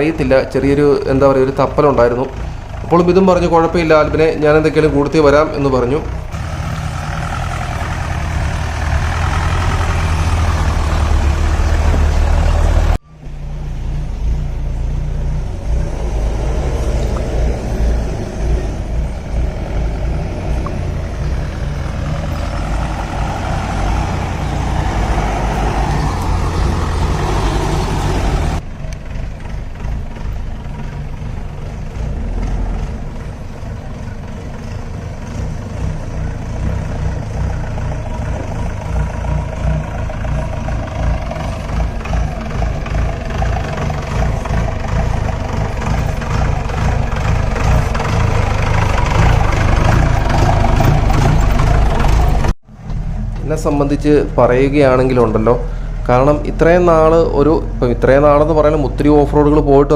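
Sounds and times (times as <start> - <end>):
jeep engine rumbling: 0.0 - 59.9.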